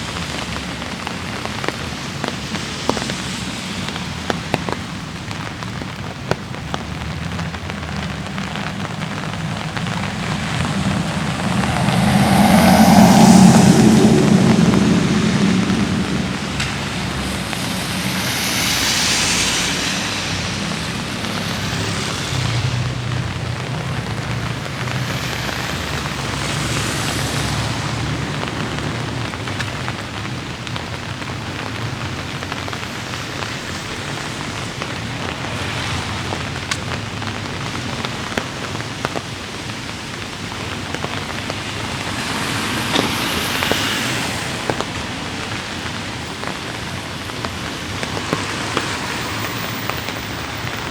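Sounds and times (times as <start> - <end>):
light rain falling: 0.0 - 50.9
traffic hissing on wet road: 0.0 - 50.9.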